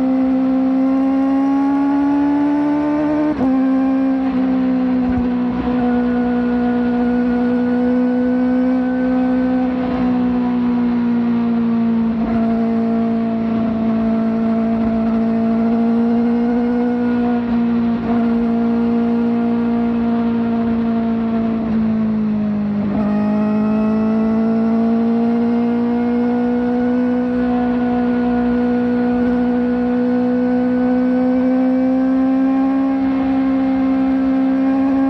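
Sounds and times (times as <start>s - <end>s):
motorcycle engine high-revving: 0.0s - 35.0s.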